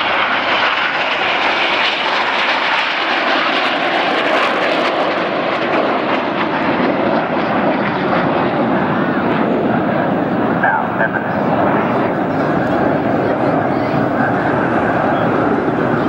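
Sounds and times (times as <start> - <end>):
jets flying low past: 0.0 - 16.0.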